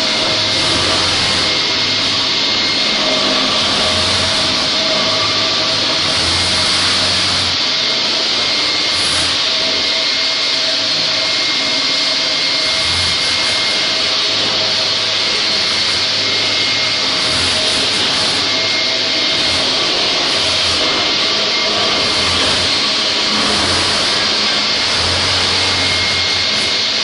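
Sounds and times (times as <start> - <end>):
floor grinder rushing noise: 0.0 - 27.0
thin steady whistle: 0.0 - 27.0.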